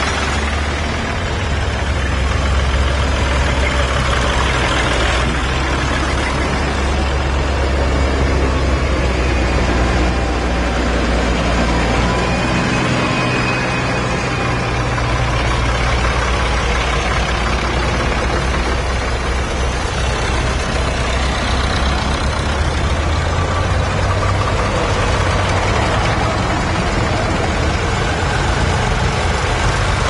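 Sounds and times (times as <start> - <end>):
tractor engines droning: 0.0 - 30.0.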